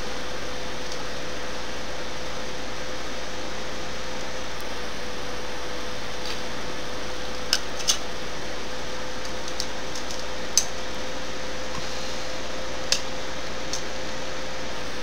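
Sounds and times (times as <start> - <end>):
faint steady hum: 0.0 - 15.0
steady hiss: 0.0 - 15.0.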